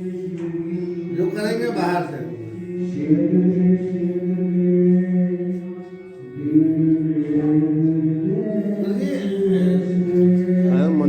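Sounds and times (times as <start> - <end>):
voices chanting a mantra: 0.0 - 11.0.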